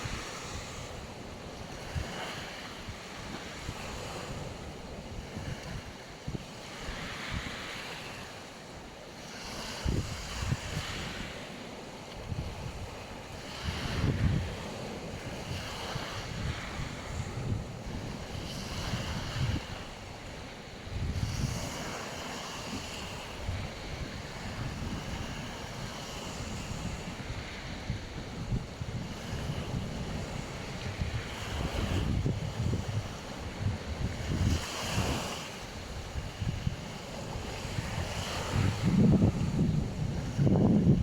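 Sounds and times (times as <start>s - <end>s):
wind buffeting microphone: 0.0s - 8.3s, 9.3s - 41.0s
waves breaking on beach: 0.0s - 41.0s.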